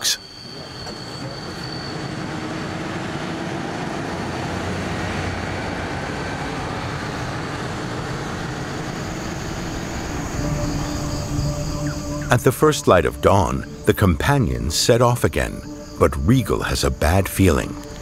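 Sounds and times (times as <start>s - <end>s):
heavy truck engine drone: 0.0s - 18.0s
road and machinery noise: 0.0s - 18.0s.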